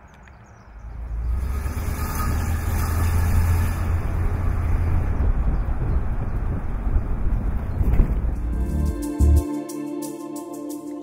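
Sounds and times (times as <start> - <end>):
deep car engine running: 0.6 - 9.4.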